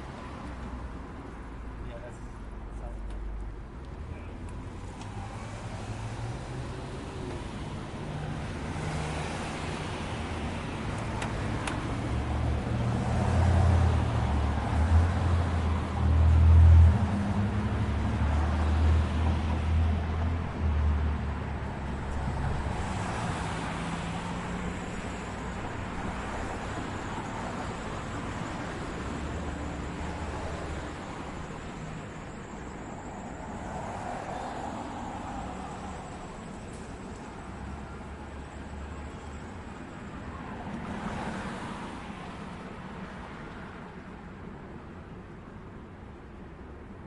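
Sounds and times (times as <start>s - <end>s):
vehicles passing: 0.0s - 47.0s.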